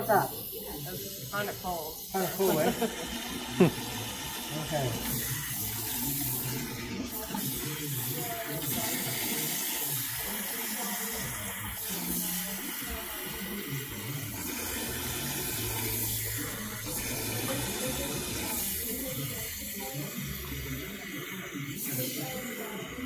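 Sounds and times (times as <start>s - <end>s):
water spraying into sink basin: 0.0s - 23.0s.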